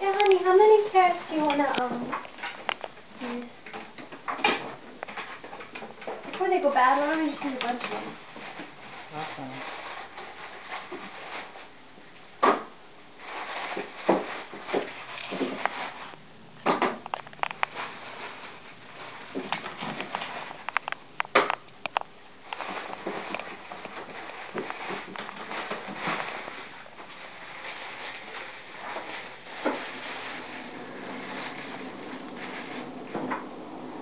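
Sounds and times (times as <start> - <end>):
rustling: 0.0 - 12.3, 13.0 - 34.0.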